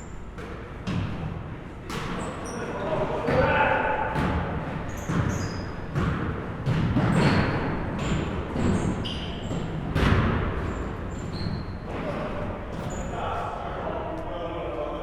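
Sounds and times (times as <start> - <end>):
sneaker squeaks: 0.0 - 13.5
basketballs bouncing on gym floor: 0.3 - 13.1.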